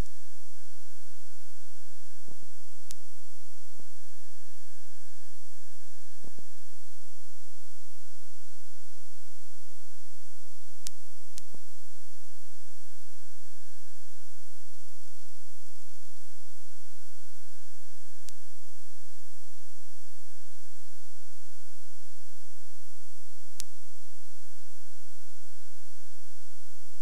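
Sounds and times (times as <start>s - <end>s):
electronic whine and hum: 0.0s - 27.0s.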